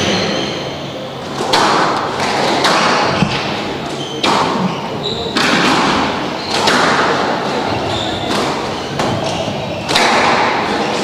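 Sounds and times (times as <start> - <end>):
squash ball hits echoing: 1.2 - 11.0.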